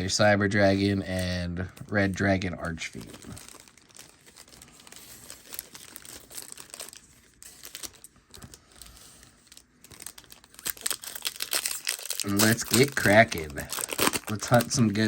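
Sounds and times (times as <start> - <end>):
foil packs crinkling: 0.6 - 15.0.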